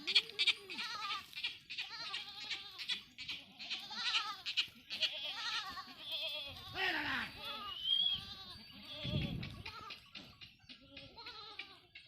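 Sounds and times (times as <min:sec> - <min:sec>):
goats bleating: 0:00.0 - 0:10.2, 0:10.8 - 0:12.0.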